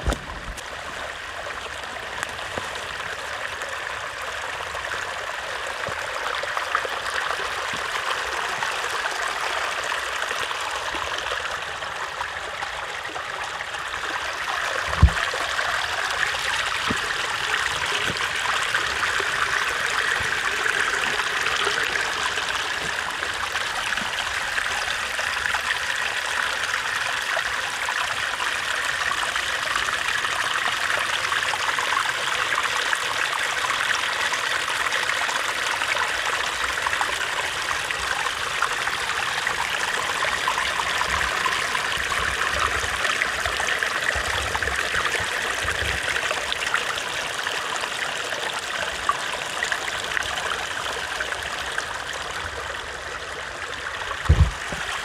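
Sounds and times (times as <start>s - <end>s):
stream trickling over rocks: 0.0s - 55.0s.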